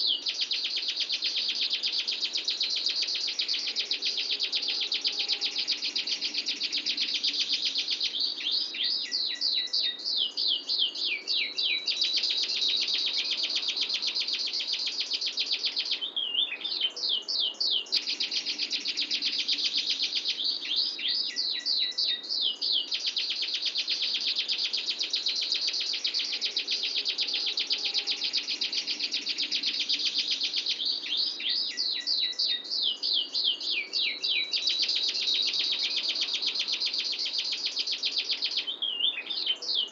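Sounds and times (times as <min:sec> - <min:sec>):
canary singing a rolling trill: 0:00.0 - 0:39.9.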